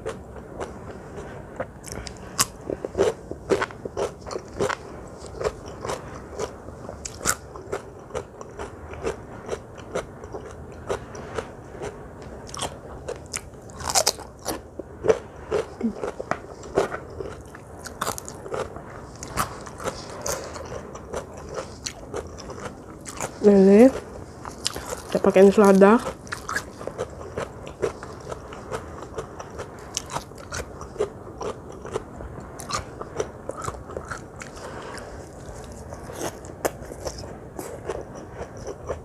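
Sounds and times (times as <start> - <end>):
person chewing crunchy food: 0.0 - 39.0.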